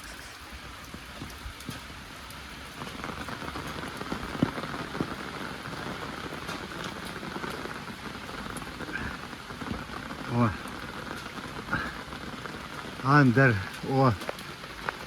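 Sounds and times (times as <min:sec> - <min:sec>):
heavy rain falling: 0:00.0 - 0:15.0
raindrops striking close by: 0:00.0 - 0:15.0.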